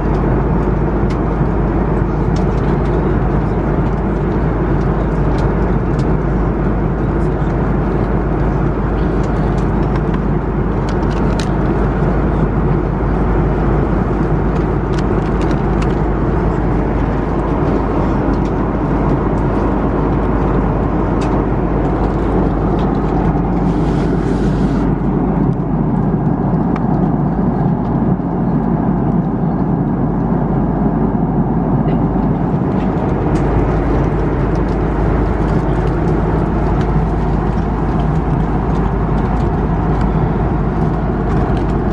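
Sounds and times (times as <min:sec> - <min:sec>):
airplane cabin airflow and engines: 0:00.0 - 0:41.9.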